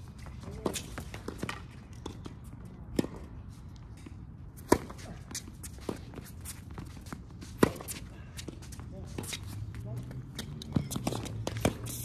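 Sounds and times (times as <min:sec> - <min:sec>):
footsteps scuffing on court: 0:00.0 - 0:12.0.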